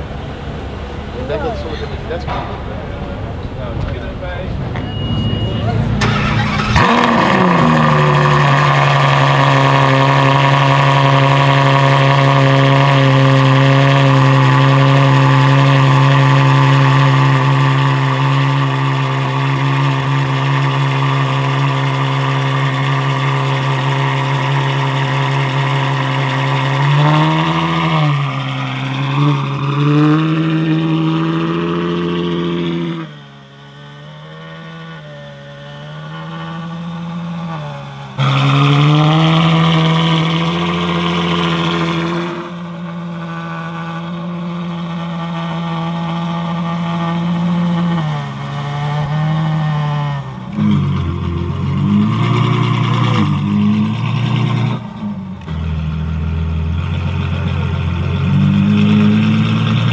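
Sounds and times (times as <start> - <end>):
engine revving blips: 0.0 - 59.9
sports car engine starting and idling: 0.0 - 59.9.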